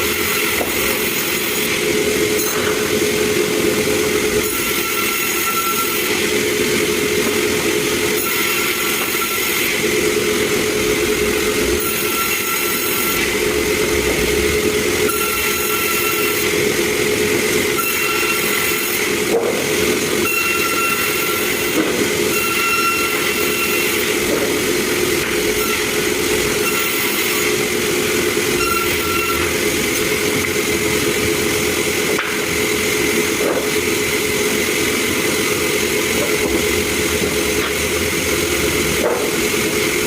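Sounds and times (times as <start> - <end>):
sawmill machinery humming: 0.0 - 40.0.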